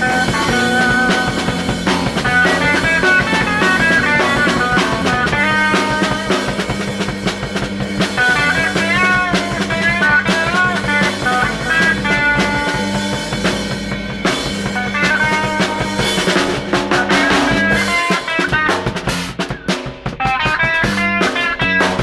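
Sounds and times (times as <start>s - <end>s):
bass guitar: 0.0s - 22.0s
drum kit: 0.0s - 22.0s
electric guitar melody: 0.0s - 22.0s.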